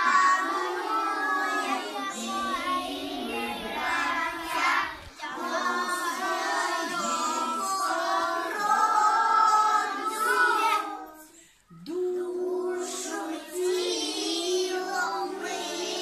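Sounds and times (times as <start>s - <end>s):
children singing in unison: 0.0s - 16.0s.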